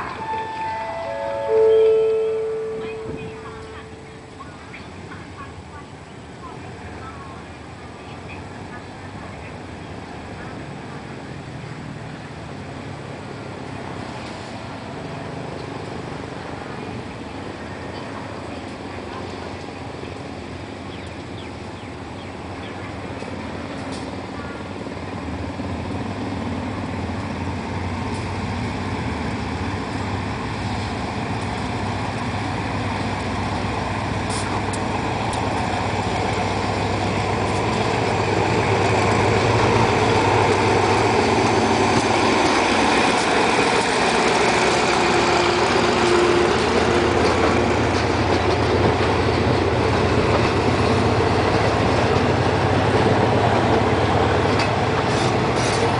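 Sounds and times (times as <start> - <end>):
diesel locomotive engine drone: 0.0 - 55.9
train coaches rolling by: 0.0 - 55.9.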